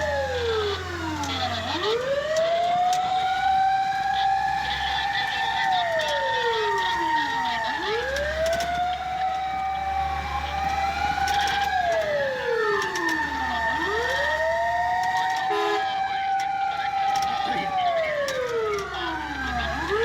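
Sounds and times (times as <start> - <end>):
fire truck sirens wailing: 0.0 - 20.0.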